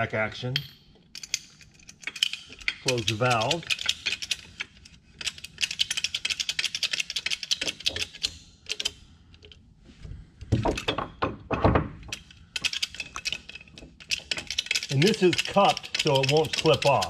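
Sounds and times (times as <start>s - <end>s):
light metallic clicks and rattles: 0.4s - 9.6s, 10.4s - 17.0s.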